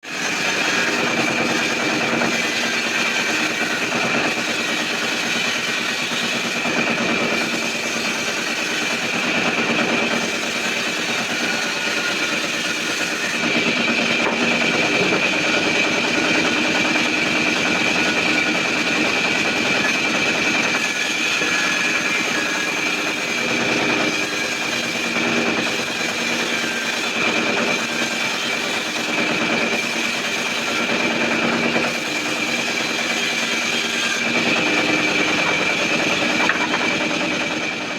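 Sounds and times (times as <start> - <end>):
sawmill saw cutting timber: 0.0 - 37.9.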